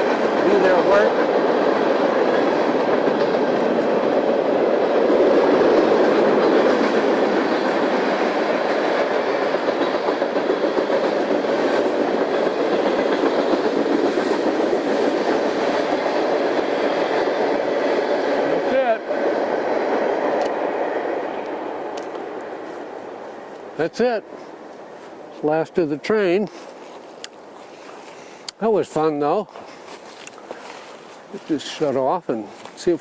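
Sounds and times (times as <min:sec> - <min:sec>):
freight train rolling on rails: 0:00.0 - 0:33.0.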